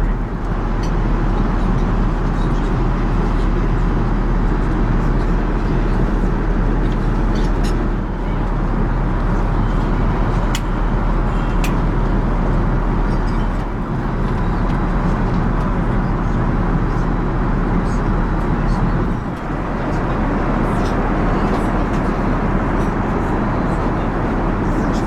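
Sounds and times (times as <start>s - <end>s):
airplane cabin airflow and engines: 0.0s - 25.0s.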